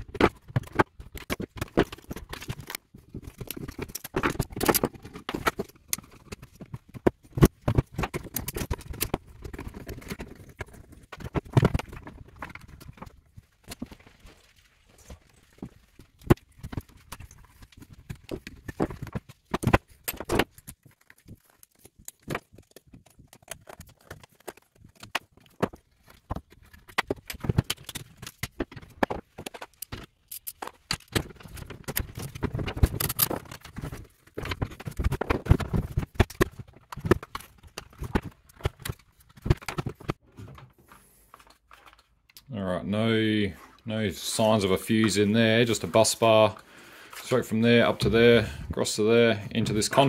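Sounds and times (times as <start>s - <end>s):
plastic parts clicking and knocking: 0.0s - 42.5s
hand tools on wooden workbench: 0.0s - 50.0s.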